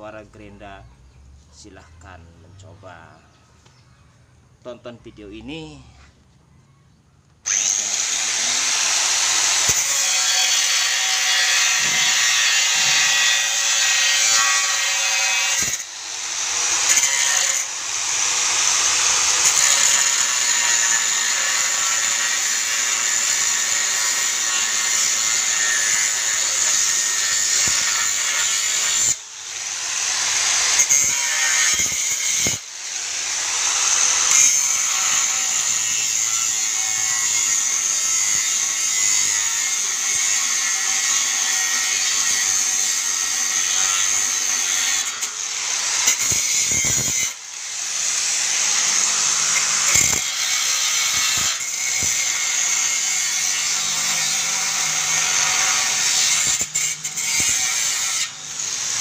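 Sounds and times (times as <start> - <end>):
angle grinder grinding steel: 7.5 - 59.0.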